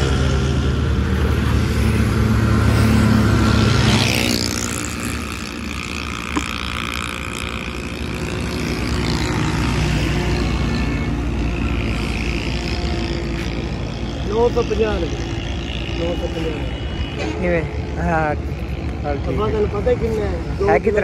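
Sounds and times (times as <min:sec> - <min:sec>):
engine low hum: 0:00.0 - 0:21.0
passing traffic rush: 0:00.0 - 0:21.0.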